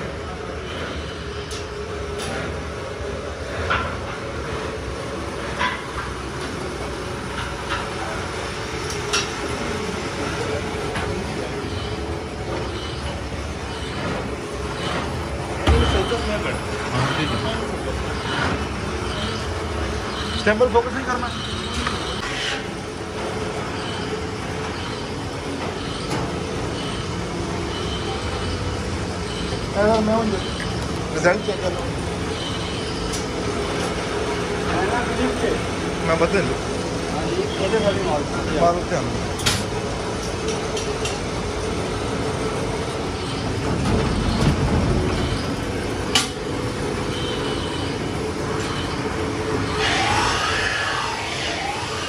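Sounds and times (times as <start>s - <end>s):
factory machinery drone: 0.0s - 52.0s.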